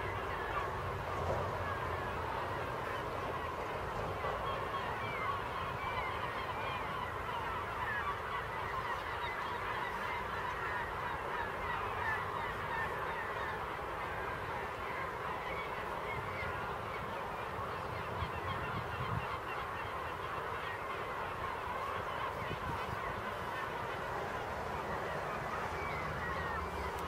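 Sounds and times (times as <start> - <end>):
flock of gulls calling: 0.0 - 27.0.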